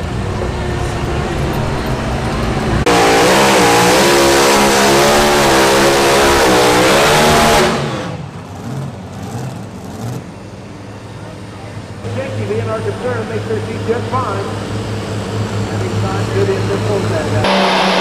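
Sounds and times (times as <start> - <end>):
pulling engine revving at full throttle: 0.0 - 18.0.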